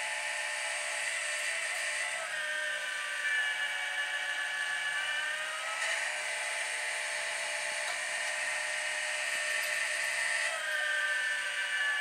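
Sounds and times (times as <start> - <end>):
electric motor whining: 0.0 - 12.0
grinding wheel on saw blade: 0.0 - 12.0.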